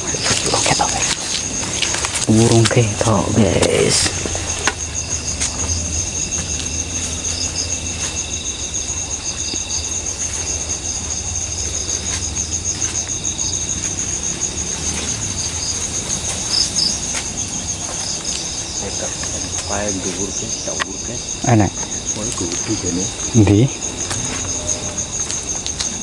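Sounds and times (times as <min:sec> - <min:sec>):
low rumble: 0:00.0 - 0:21.3
crickets chirping: 0:00.0 - 0:26.0
insects chirping: 0:00.0 - 0:26.0.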